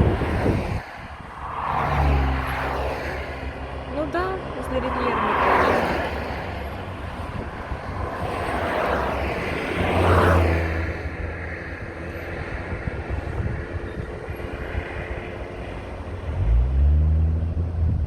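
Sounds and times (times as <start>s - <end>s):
car engine hum: 0.0s - 18.0s
road noise rushing: 0.0s - 18.0s.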